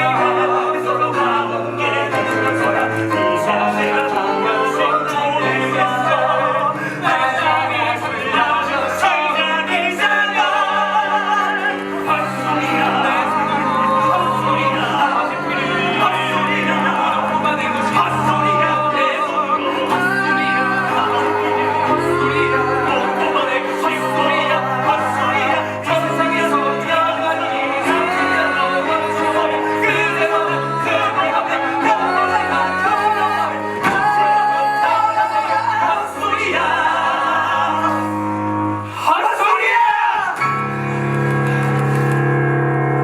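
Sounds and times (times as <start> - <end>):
person singing with vibrato: 0.0 - 41.1.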